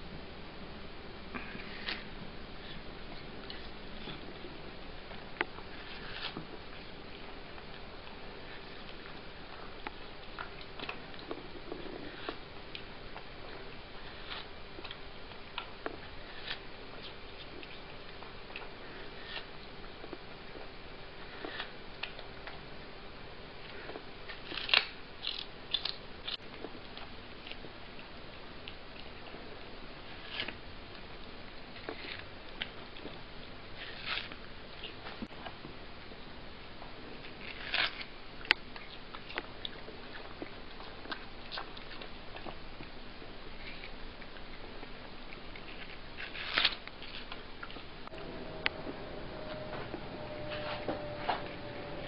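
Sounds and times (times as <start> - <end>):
cat chewing watermelon: 1.3 - 52.0.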